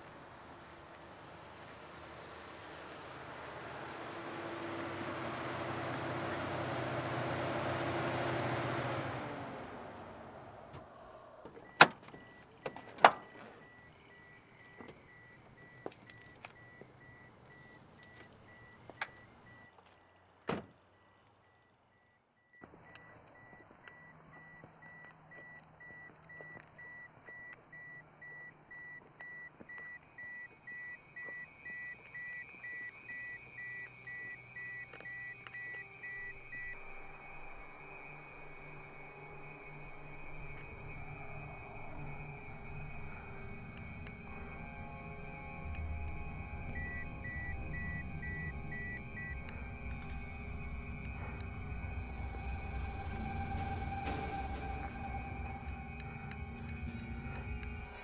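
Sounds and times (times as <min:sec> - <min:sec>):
car warning chime beeping: 0:10.8 - 0:20.2, 0:20.9 - 0:58.0.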